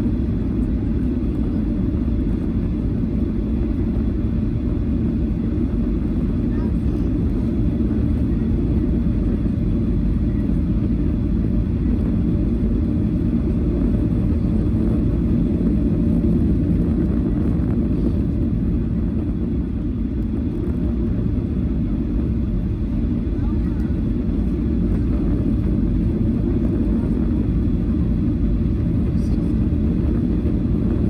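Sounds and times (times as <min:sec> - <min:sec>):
aircraft cabin rumble: 0:00.0 - 0:31.0.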